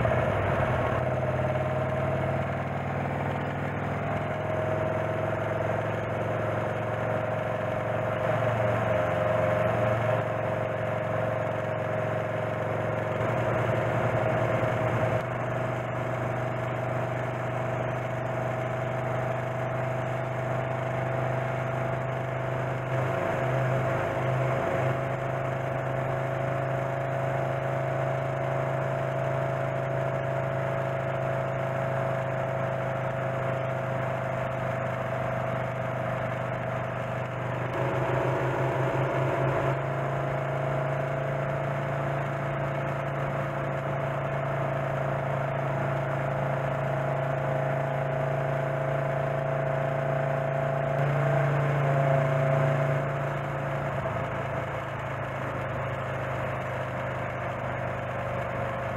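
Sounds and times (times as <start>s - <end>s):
motorcycle engine running: 0.0s - 58.9s
road noise: 0.0s - 58.9s.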